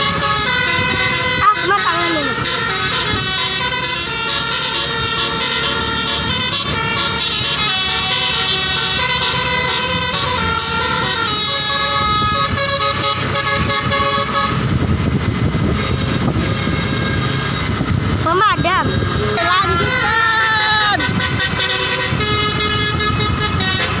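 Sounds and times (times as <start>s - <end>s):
multi-trumpet bus horn tune: 0.0s - 14.8s, 15.4s - 24.0s
low vehicle rumble: 0.0s - 24.0s.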